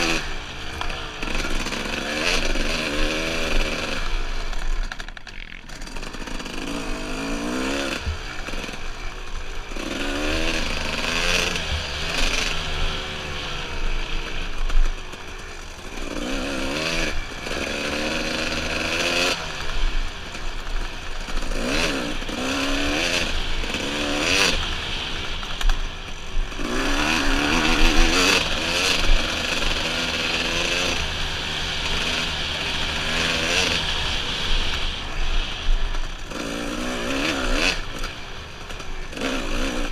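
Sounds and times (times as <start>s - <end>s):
dirt bike engine revving: 0.0s - 39.9s
steady rushing noise: 0.0s - 39.9s.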